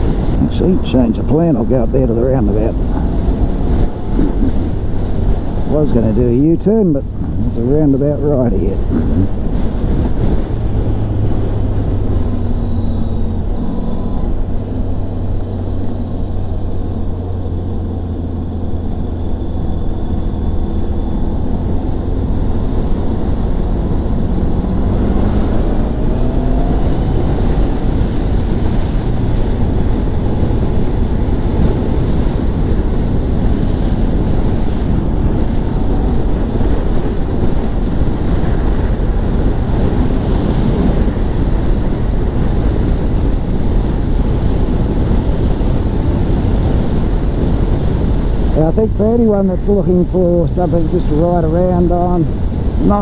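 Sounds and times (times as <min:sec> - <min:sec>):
wind noise on microphone: 0:00.0 - 0:53.0.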